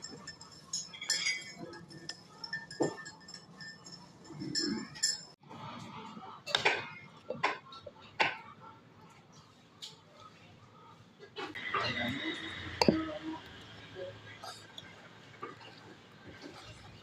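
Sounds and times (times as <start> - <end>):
dishes and utensils clinking: 0.0 - 8.7, 11.2 - 17.0.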